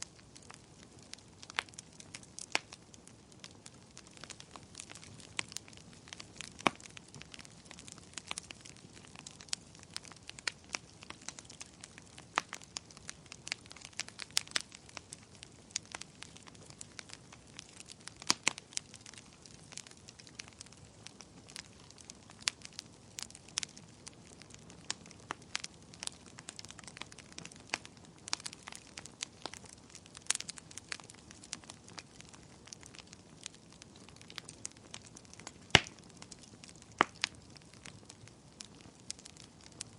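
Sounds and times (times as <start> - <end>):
campfire pops and snaps: 0.0 - 39.9
low steady fire hiss: 0.0 - 39.9.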